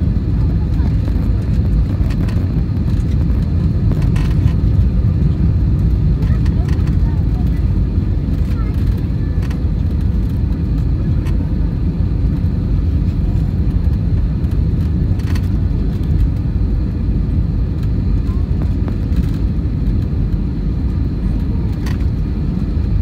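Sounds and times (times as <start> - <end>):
airplane cabin rumble: 0.0 - 23.0.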